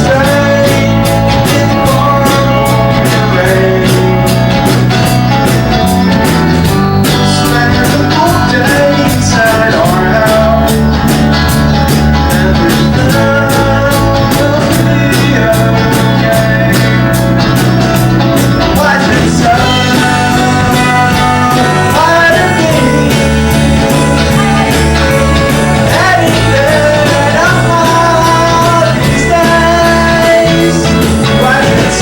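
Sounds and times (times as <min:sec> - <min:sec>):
bass guitar: 0:00.0 - 0:32.0
drums: 0:00.0 - 0:32.0
electric guitar: 0:00.0 - 0:32.0
person singing: 0:00.0 - 0:32.0.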